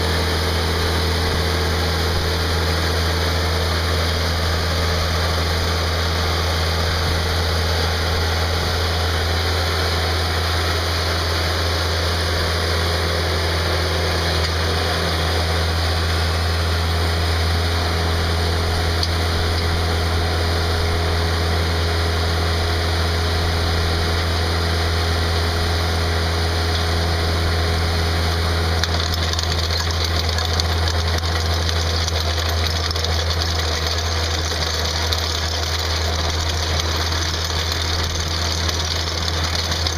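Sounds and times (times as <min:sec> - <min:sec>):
trencher engine running: 0:00.0 - 0:39.9.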